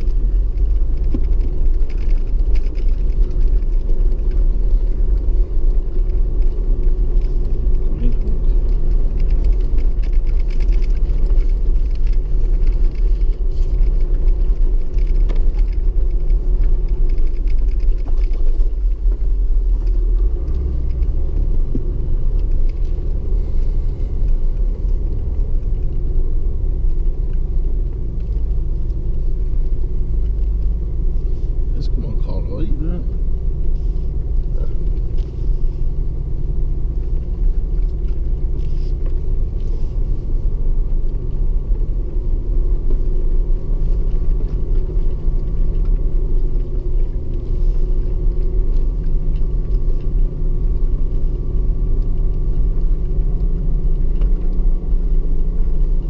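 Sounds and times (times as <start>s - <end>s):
diesel engine low rumble: 0.0s - 56.0s.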